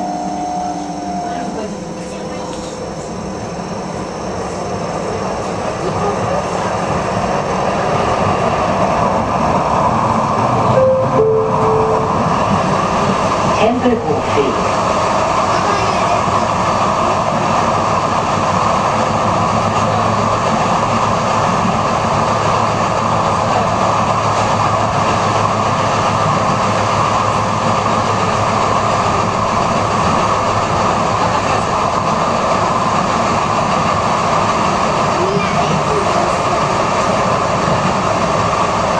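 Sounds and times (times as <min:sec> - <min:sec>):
train wheels rolling on rails: 0:01.3 - 0:38.9.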